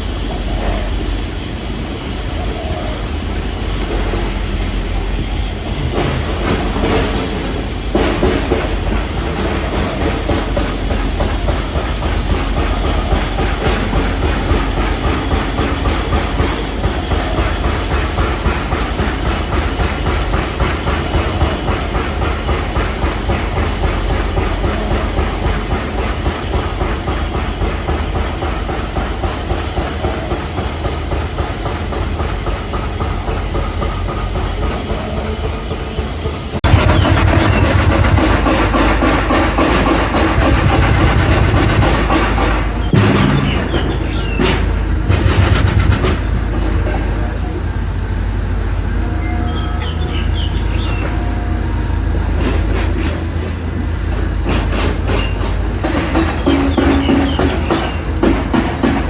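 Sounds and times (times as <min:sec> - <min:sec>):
construction machinery rattling: 0:00.0 - 0:59.0.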